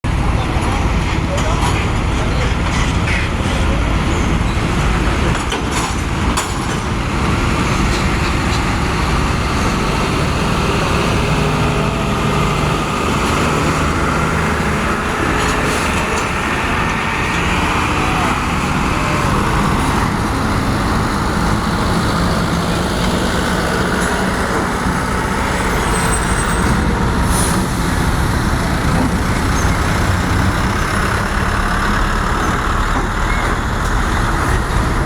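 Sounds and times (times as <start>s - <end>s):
heavy engines and machinery: 0.0s - 35.0s.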